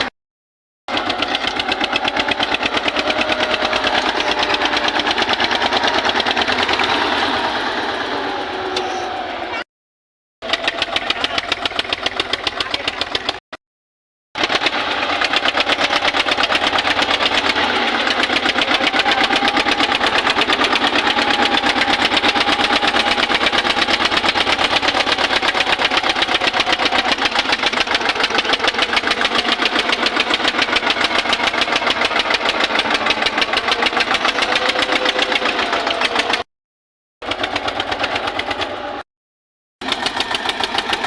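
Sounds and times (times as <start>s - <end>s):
tractor diesel engine chugging: 0.9s - 9.6s, 10.4s - 13.4s, 14.4s - 36.5s, 37.2s - 39.0s, 39.8s - 41.0s.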